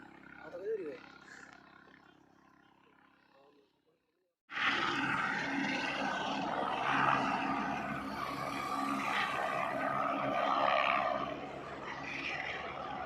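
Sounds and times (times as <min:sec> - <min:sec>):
helicopter engine and rotor hum: 0:00.0 - 0:13.0.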